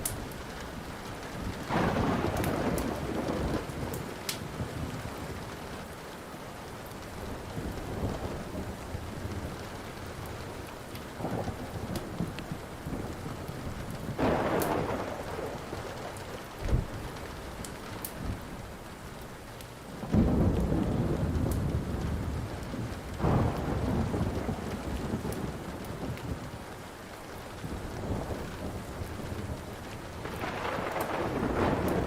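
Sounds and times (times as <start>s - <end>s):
steady rain: 0.0s - 32.0s
wood fire crackling: 0.0s - 32.0s
thunder rolling: 1.3s - 5.4s, 7.1s - 18.8s, 20.0s - 26.8s, 27.6s - 32.0s.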